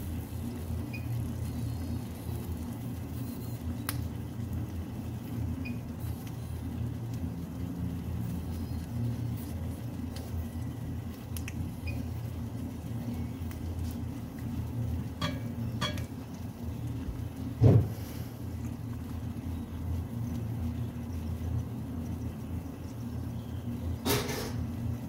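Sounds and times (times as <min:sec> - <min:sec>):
cooktop humming: 0:00.0 - 0:25.0.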